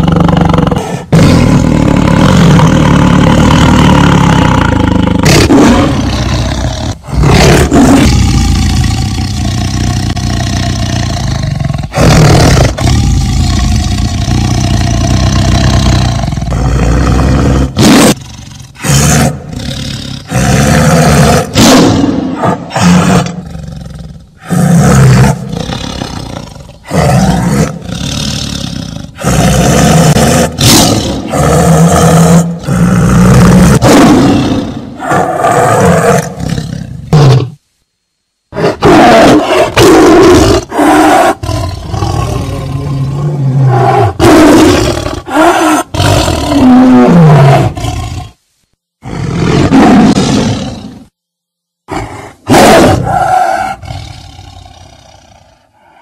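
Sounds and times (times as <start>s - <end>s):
tiger roaring and growling: 0.0s - 37.6s, 38.5s - 48.4s, 49.0s - 51.1s, 51.9s - 56.0s.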